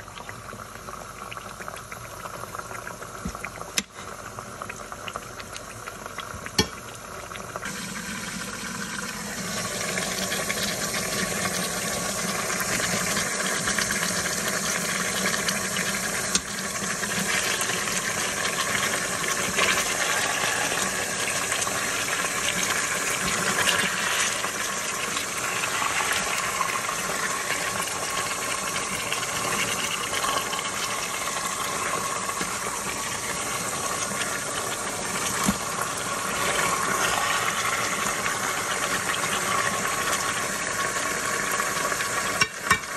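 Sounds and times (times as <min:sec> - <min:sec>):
juices bubbling: 0:00.0 - 0:42.9
meat sizzling in a pot: 0:00.0 - 0:42.9.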